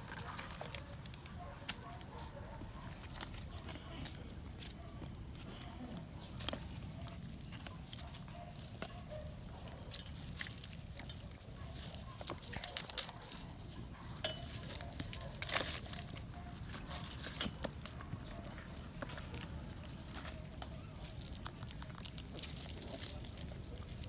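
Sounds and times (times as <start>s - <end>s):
puppies eating and scuffling: 0.0s - 24.0s.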